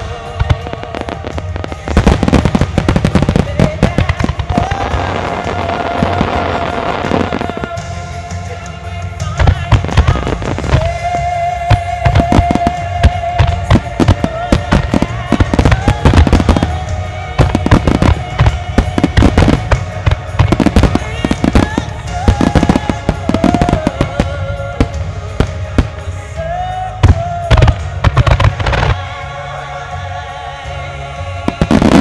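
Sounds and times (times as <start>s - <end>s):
fireworks bursting: 0.0s - 8.6s, 9.2s - 29.2s, 31.5s - 32.0s
fireworks crackling: 0.0s - 29.3s, 31.5s - 32.0s
music with sustained melody: 0.0s - 32.0s.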